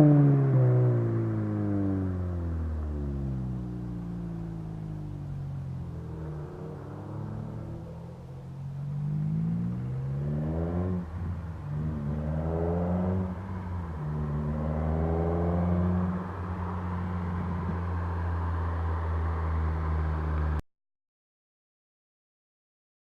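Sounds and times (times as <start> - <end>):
car engine accelerating hard: 0.0 - 20.6.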